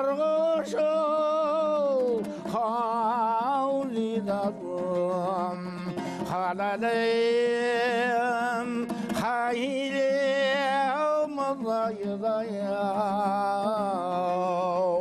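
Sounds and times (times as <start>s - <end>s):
man singing long held notes: 0.0s - 15.0s
strummed lute: 0.0s - 15.0s.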